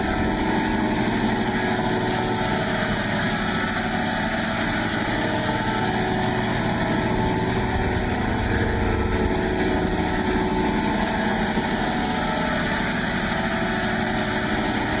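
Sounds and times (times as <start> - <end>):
harsh distorted drone: 0.0 - 15.0.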